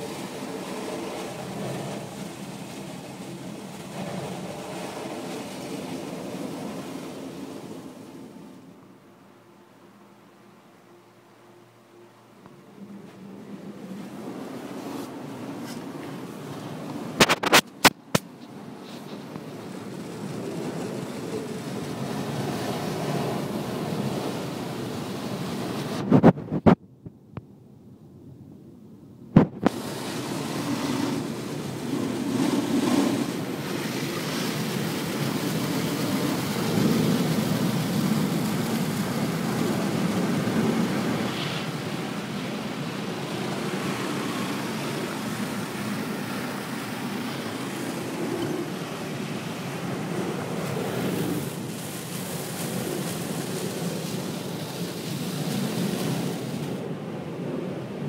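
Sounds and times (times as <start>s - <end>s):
car wash water spray and brushes: 0.0s - 8.9s, 12.8s - 26.7s, 29.4s - 58.0s.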